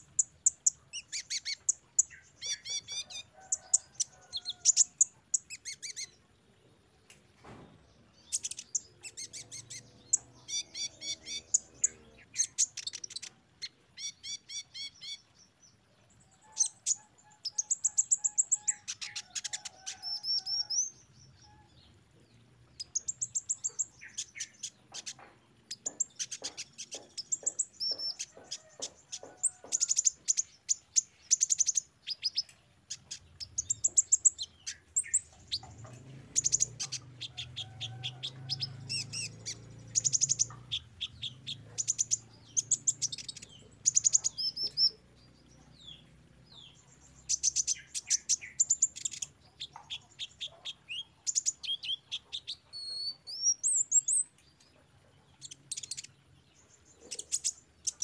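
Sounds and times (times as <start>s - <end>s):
sunbird chirping and trilling: 0.0s - 6.3s, 7.4s - 15.8s, 16.4s - 54.7s, 55.3s - 58.0s.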